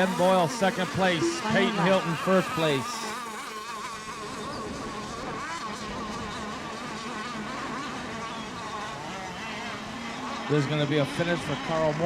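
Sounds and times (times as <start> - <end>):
small boat engines buzzing: 0.0 - 12.0.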